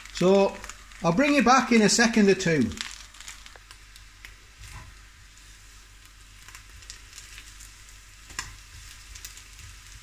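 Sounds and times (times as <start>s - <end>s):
bacon sizzling in a pan: 0.0s - 10.0s.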